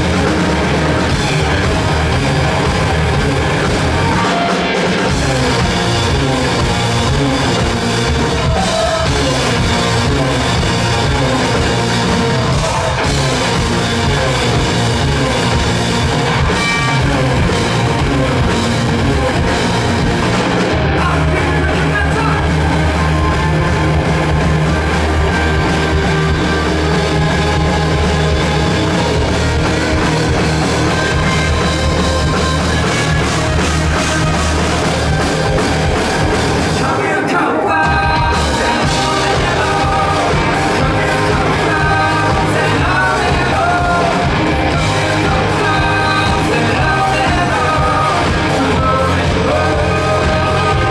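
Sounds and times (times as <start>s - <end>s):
bass guitar: 0.0s - 50.9s
drum kit: 0.0s - 50.9s
electric guitar: 0.0s - 50.9s
rock band playing live: 0.0s - 50.9s.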